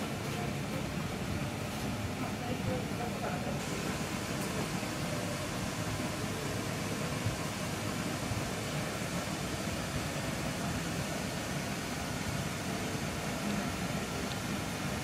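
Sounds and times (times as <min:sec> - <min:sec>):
ventilation hum and hiss: 0:00.0 - 0:15.0.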